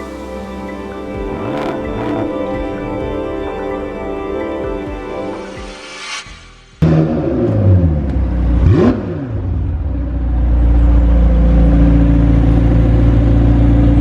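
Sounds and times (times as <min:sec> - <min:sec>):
car engine revving and idling: 0:00.0 - 0:05.4, 0:06.8 - 0:14.0.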